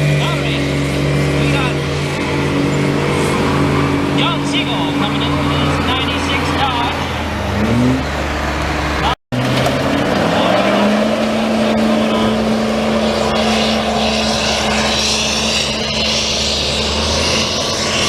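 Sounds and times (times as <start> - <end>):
diesel truck engine revving: 0.0 - 18.0.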